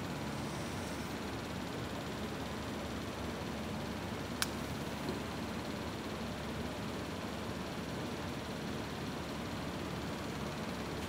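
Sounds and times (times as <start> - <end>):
workshop hum and hiss: 0.0 - 11.0.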